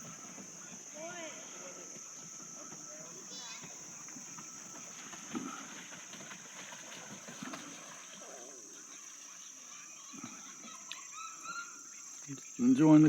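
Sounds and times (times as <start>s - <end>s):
crickets chirping: 0.0s - 13.0s
faint distant voices: 0.0s - 13.0s.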